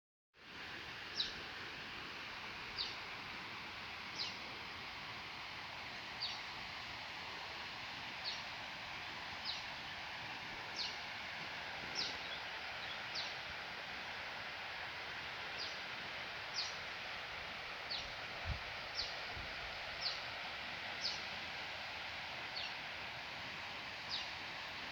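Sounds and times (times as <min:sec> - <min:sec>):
forest ambience hiss: 0:00.4 - 0:24.9.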